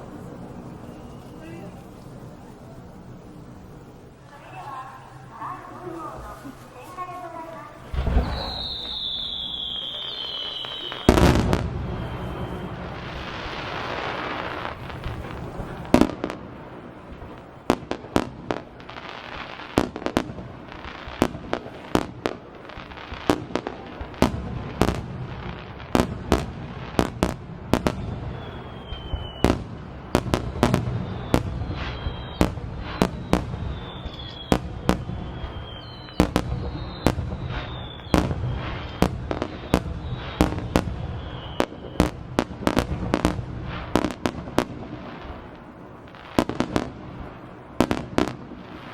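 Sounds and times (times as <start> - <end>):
falling firework whistles: 0.0 - 2.5, 7.7 - 48.9
fireworks bursting: 0.0 - 48.9.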